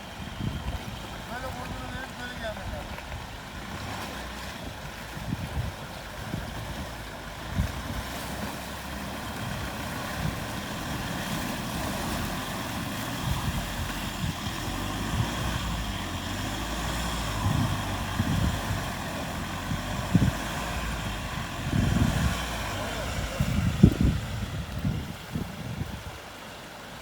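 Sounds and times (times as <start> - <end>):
heavy vehicle engine rumbling: 0.0 - 27.0.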